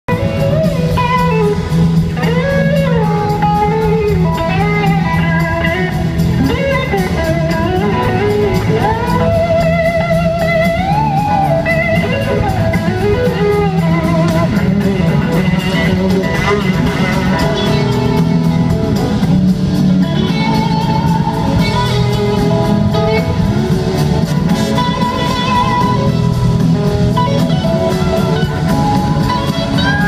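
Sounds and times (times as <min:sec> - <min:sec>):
bass: 0:00.0 - 0:30.0
blues band playing: 0:00.1 - 0:30.0
electric guitar lead: 0:00.1 - 0:30.0.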